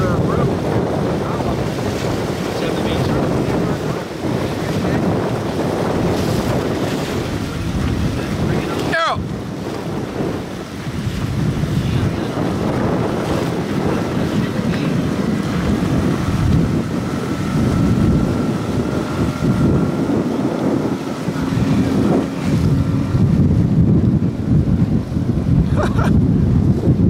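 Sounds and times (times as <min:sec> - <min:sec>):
choppy water: 0:00.0 - 0:27.0
outboard motor running: 0:00.0 - 0:27.0
wind buffeting microphone: 0:00.0 - 0:27.0.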